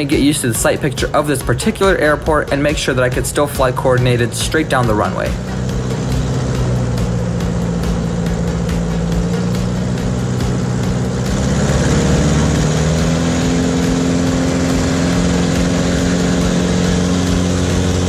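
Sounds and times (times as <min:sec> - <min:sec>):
airplane engine and propeller: 0:00.0 - 0:18.0.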